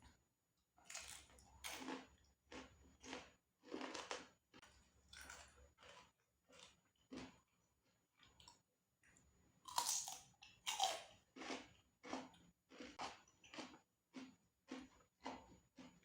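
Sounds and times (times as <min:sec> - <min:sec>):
person chewing crunchy food: 0:00.8 - 0:08.7, 0:09.7 - 0:16.0.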